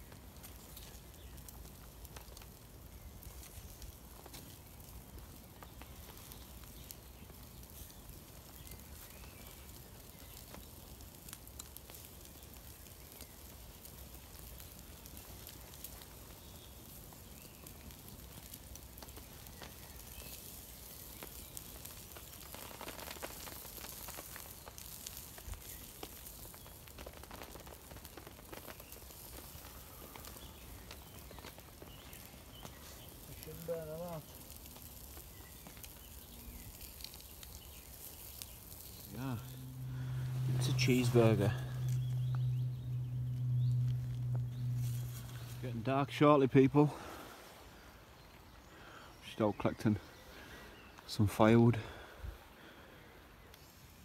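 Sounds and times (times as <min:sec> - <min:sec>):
burgers sizzling: 0:00.0 - 0:47.5
campfire crackling and popping: 0:00.0 - 0:54.0.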